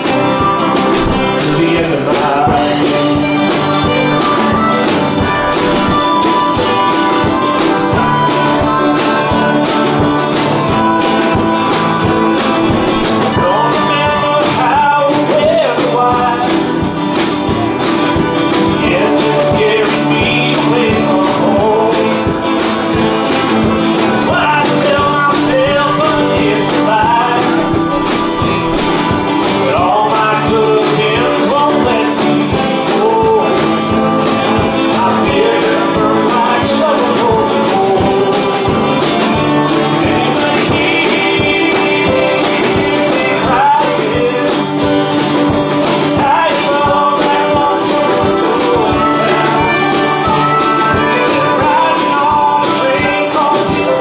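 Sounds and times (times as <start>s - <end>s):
acoustic guitar strumming: 0.0s - 54.0s
drum beat: 0.0s - 54.0s
harmonica: 0.0s - 54.0s
man singing: 0.0s - 54.0s.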